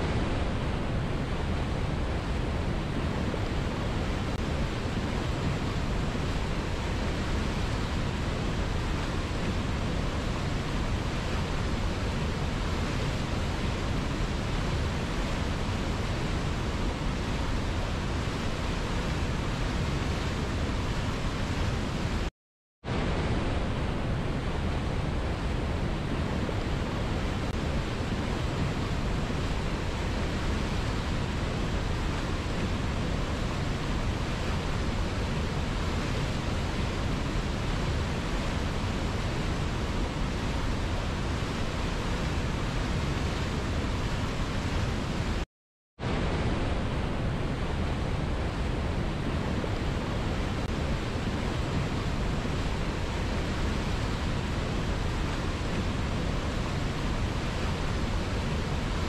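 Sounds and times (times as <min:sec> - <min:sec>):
waterfall rushing over boulders: 0:00.0 - 0:22.3, 0:22.9 - 0:45.4, 0:46.0 - 0:59.0.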